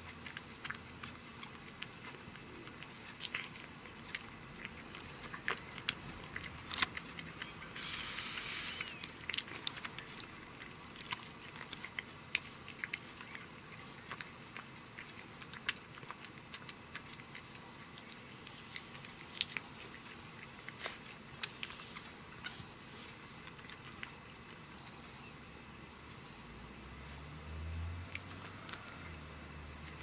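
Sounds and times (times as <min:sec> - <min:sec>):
cat chewing fish: 0:00.0 - 0:25.3, 0:27.2 - 0:30.0.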